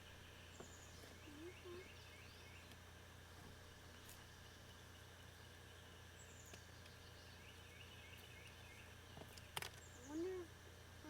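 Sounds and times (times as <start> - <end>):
faint bird chirps: 0.0 - 10.5.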